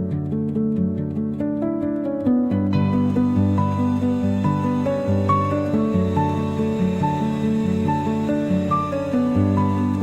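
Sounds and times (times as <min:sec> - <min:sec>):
gentle new-age instrumental music: 0:00.0 - 0:10.0.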